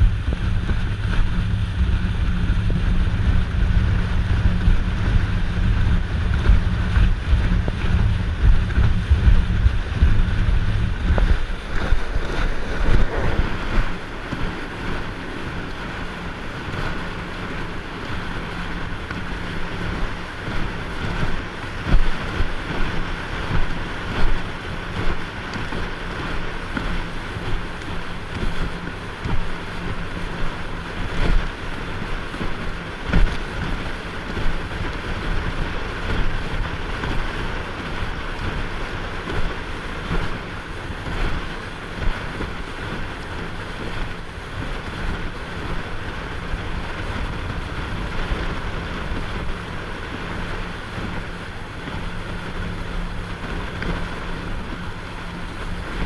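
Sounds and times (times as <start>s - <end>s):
motorboat engine humming: 0.0s - 56.0s
water rushing past hull: 0.0s - 56.0s
wind buffeting microphone: 0.0s - 56.0s.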